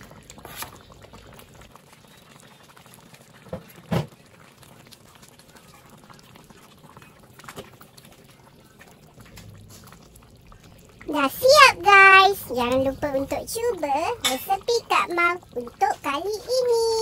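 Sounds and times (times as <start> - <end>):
gravy bubbling in a wok: 0.0 - 17.0.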